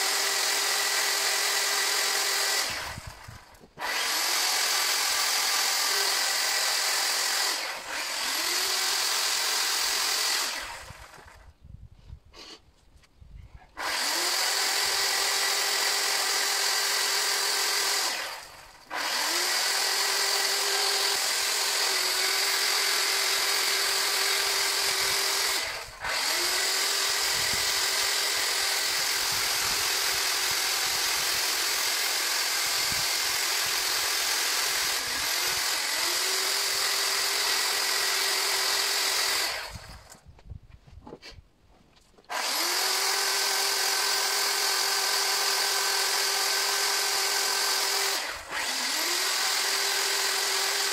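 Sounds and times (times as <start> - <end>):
electric chainsaw whining: 0.0 - 11.6, 13.7 - 40.2, 42.3 - 50.9.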